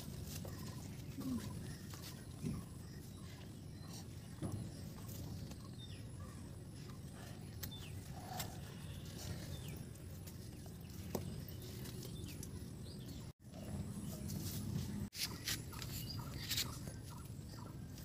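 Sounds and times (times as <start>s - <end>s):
outdoor background hum: 0.0s - 18.0s.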